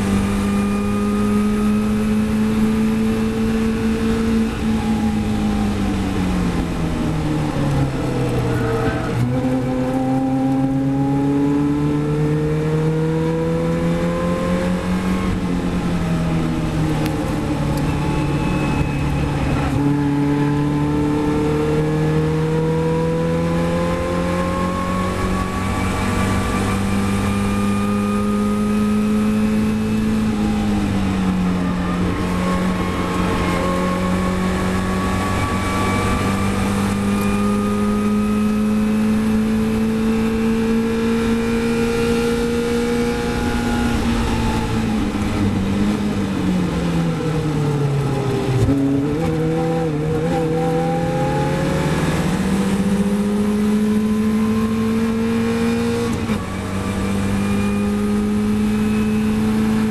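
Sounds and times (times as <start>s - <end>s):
race car engine accelerating: 0.0s - 59.9s
wind and road rush: 0.0s - 59.9s.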